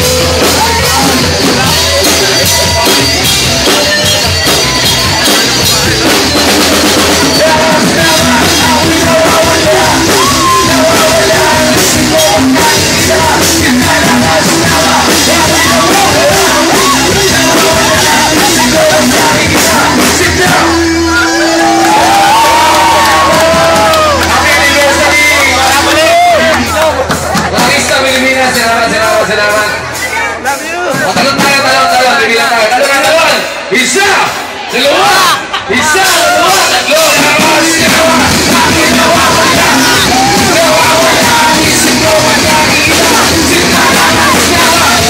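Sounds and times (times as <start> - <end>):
lead vocal singing: 0.0 - 30.2, 30.9 - 45.0
live rock band playing: 0.0 - 32.0, 35.3 - 45.0
drums: 0.0 - 45.0.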